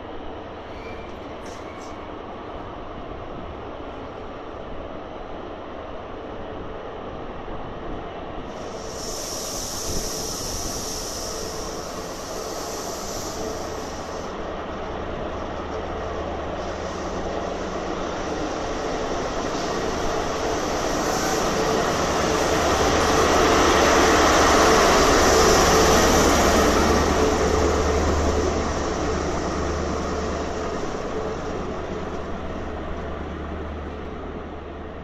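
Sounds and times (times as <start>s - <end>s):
train coaches rolling past: 0.0s - 35.0s.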